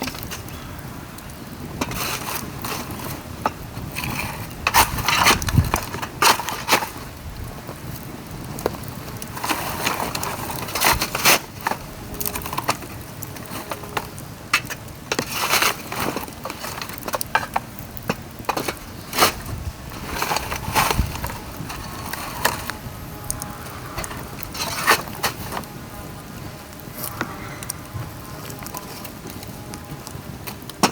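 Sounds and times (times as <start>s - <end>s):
bamboo fire crackling and popping: 0.0s - 30.9s.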